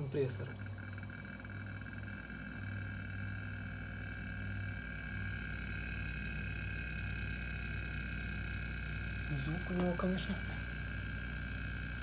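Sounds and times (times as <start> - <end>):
compressor hum with high whine: 0.0 - 12.0.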